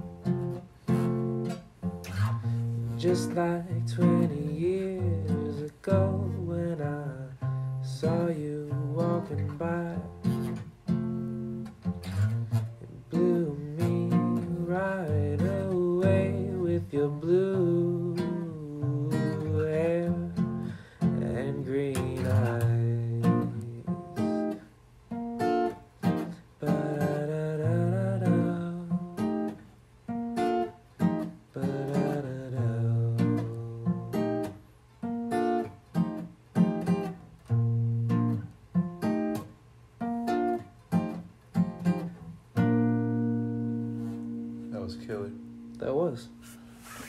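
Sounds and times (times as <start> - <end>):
acoustic guitar playing: 0.0 - 47.0.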